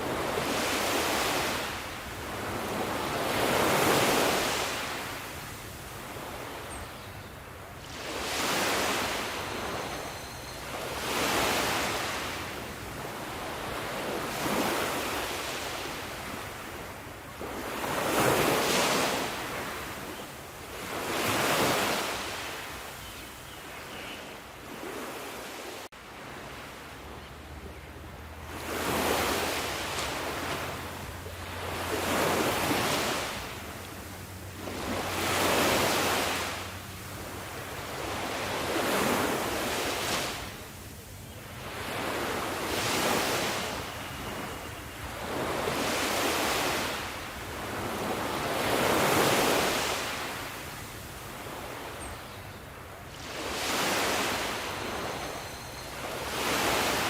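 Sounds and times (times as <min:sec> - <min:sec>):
sea waves washing on shore: 0:00.0 - 0:06.8, 0:07.4 - 0:23.0, 0:24.6 - 0:57.0.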